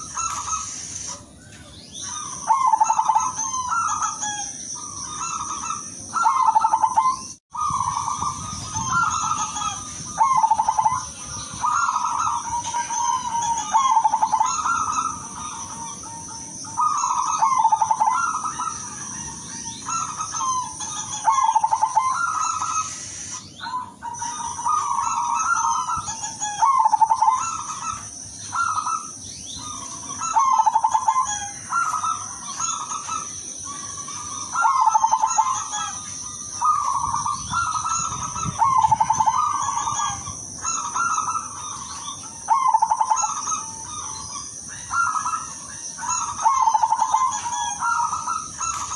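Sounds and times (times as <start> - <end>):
dove cooing: 0.0 - 48.9
steady high-pitched whine: 0.0 - 48.9.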